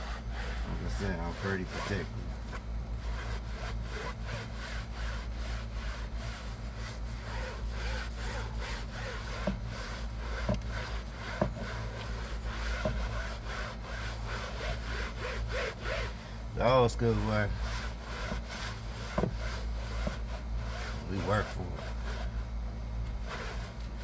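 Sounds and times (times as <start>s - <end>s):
brush scrubbing wet upholstery: 0.0s - 24.0s.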